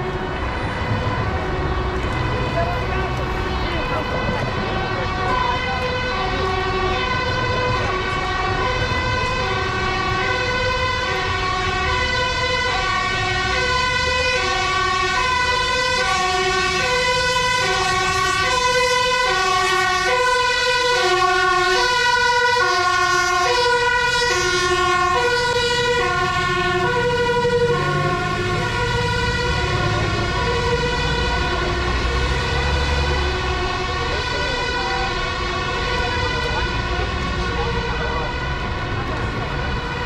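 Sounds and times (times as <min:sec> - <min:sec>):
low rumbling street noise: 0:00.0 - 0:40.0
two-tone emergency siren: 0:00.0 - 0:40.0.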